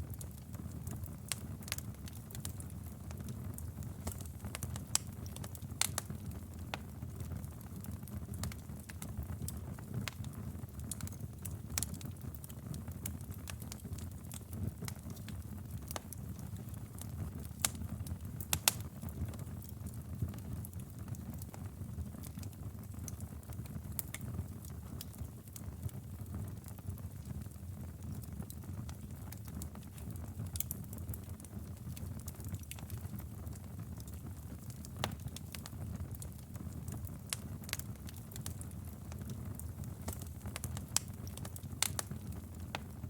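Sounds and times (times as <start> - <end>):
fire rumbling: 0.0 - 43.0
logs crackling and popping: 0.1 - 43.0.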